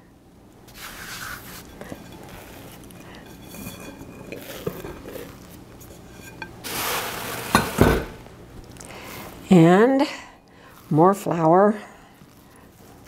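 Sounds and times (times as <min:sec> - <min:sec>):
hands kneading dough: 0:00.6 - 0:07.6, 0:08.2 - 0:13.0.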